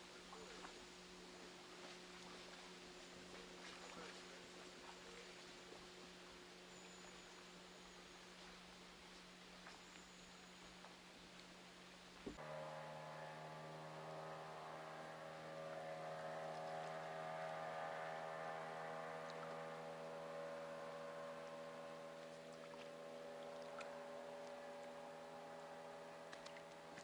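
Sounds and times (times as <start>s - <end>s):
faint motorboat engine drone: 0.0s - 27.0s.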